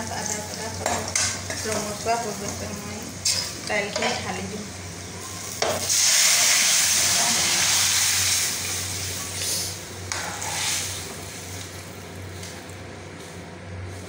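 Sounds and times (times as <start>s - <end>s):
food sizzling in hot oil: 0.0s - 12.5s.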